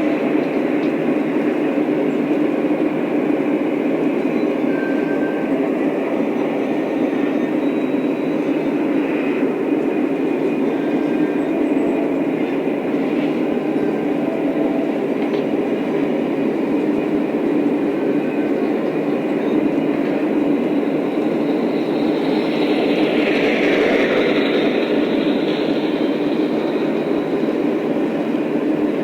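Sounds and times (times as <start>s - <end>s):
model train rumbling on track: 0.0s - 29.0s.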